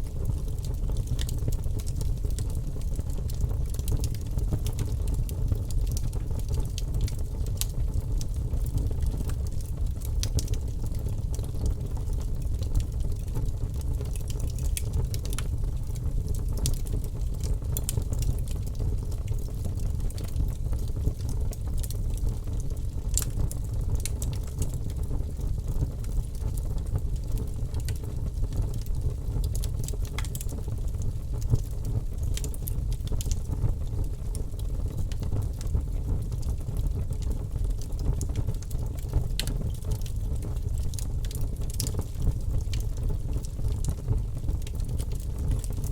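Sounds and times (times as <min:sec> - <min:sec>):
fire crackling and popping: 0:00.0 - 0:45.9
low rumble of flame: 0:00.0 - 0:45.9.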